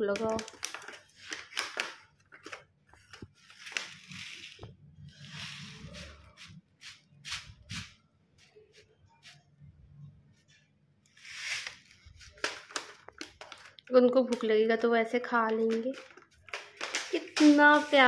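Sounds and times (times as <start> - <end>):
food packet rustling: 0.1 - 8.0, 11.2 - 18.0.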